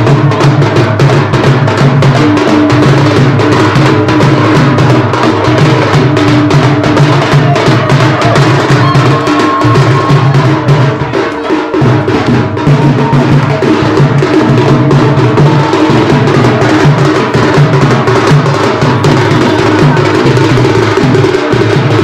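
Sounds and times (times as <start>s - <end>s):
drum-led music: 0.0s - 22.0s.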